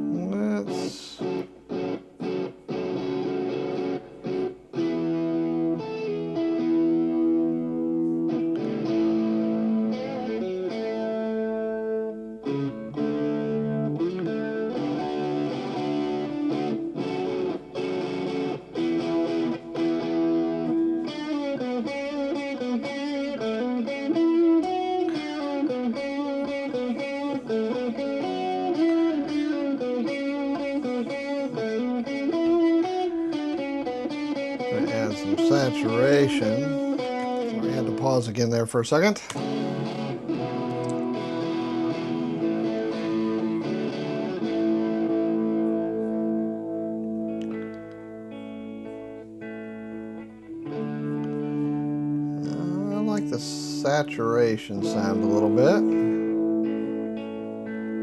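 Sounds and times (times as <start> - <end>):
recorded song with electric guitar: 0.0 - 58.0.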